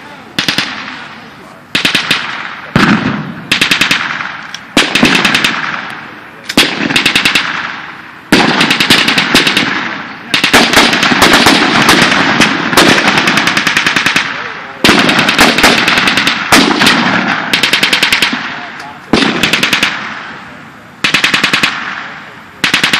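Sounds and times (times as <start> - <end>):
automatic weapons firing bursts: 0.4 - 1.1, 1.7 - 5.9, 6.5 - 20.2, 21.0 - 22.9.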